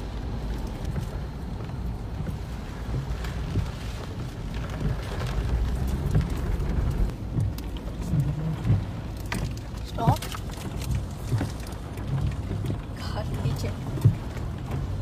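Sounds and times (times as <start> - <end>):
heavy rain on car: 0.0 - 15.0
road and wind rumble: 0.0 - 15.0.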